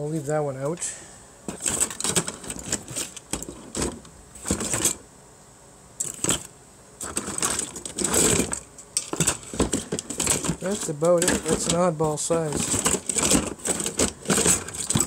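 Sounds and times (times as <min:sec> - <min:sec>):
plastic fans clattering in a box: 0:01.5 - 0:05.0, 0:06.0 - 0:15.0.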